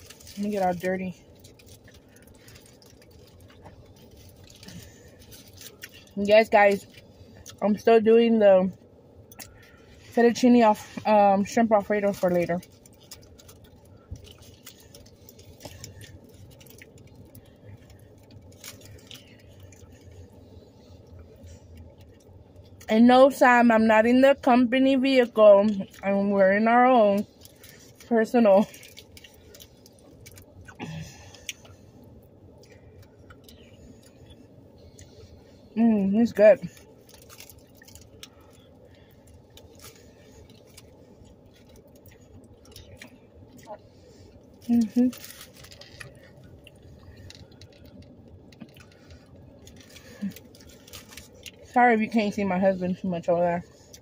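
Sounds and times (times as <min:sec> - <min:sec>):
foil wrapper crinkling: 0:00.0 - 0:07.9, 0:09.4 - 0:22.9, 0:25.2 - 0:54.0
small clicks and rustles: 0:00.0 - 0:08.0, 0:08.7 - 0:22.9, 0:25.1 - 0:35.6, 0:36.4 - 0:54.0
low steady hum: 0:00.0 - 0:54.0.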